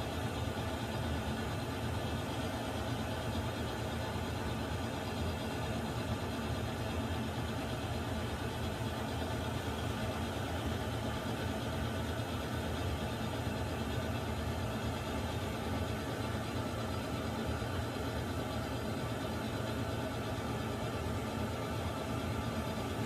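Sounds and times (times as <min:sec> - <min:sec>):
water heater rumbling and hissing: 0:00.0 - 0:23.0.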